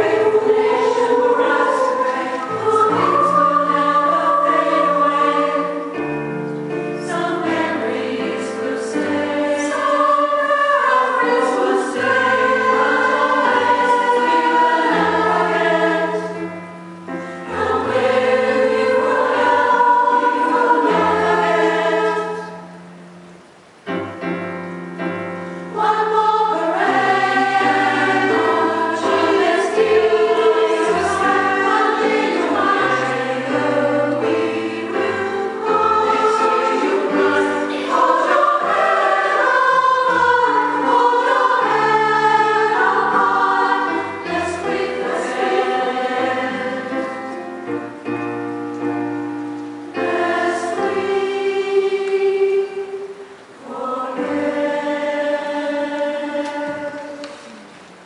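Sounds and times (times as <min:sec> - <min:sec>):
choir singing held notes: 0:00.0 - 0:58.0.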